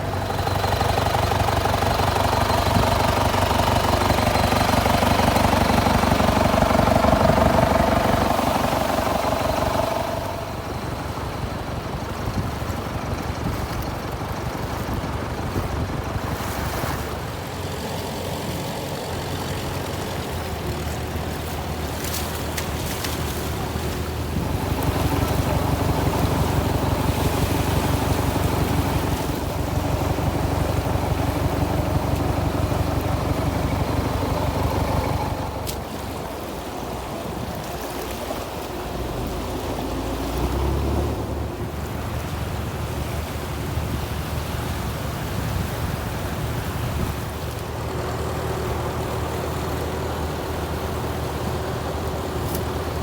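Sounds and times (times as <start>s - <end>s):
boat engine running: 0.0s - 53.0s
sea wash: 0.0s - 53.0s.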